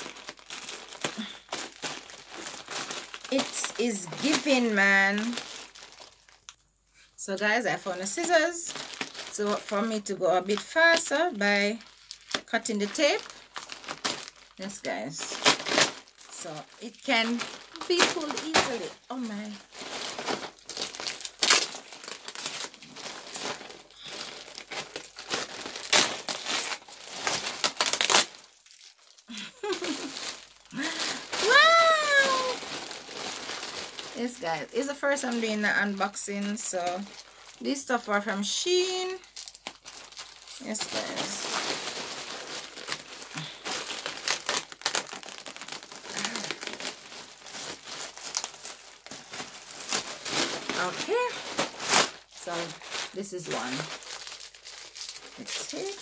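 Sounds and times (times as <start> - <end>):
plastic wrapping crinkling and tearing: 0.0 - 56.0.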